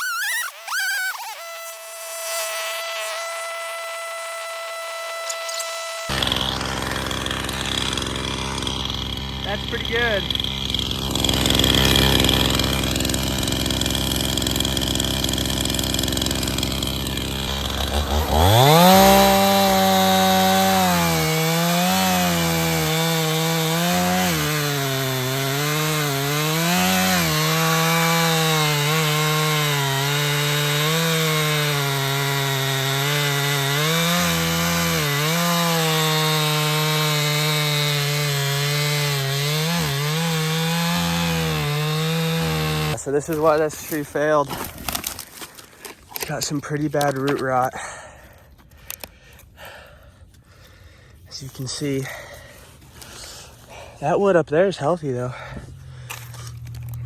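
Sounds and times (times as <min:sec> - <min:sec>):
chainsaw idling and cutting wood: 0:00.0 - 0:57.0.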